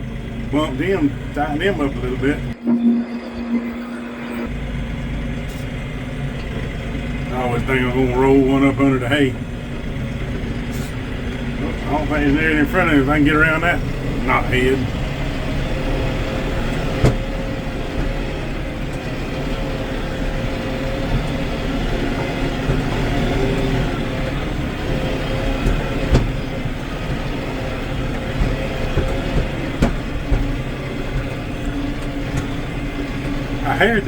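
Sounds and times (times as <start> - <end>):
tractor engine running: 0.0 - 34.0
tractor knocking over bumps: 5.3 - 34.0.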